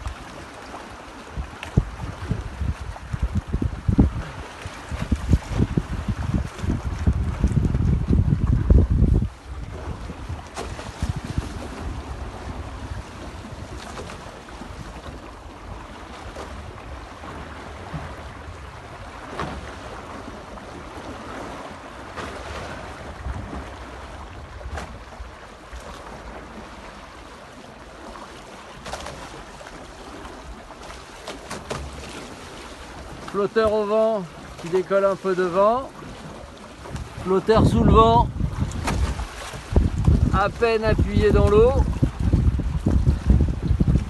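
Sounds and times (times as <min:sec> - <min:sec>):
wind buffeting microphone: 0:00.0 - 0:28.3, 0:36.0 - 0:44.0
water rushing along hull: 0:00.0 - 0:44.0
water slapping hull: 0:00.0 - 0:44.0.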